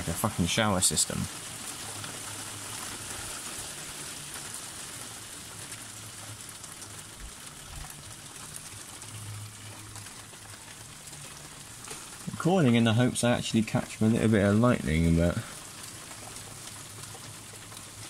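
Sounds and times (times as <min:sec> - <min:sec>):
hail ticks: 0:00.0 - 0:18.0
rain falling hiss: 0:00.0 - 0:18.0.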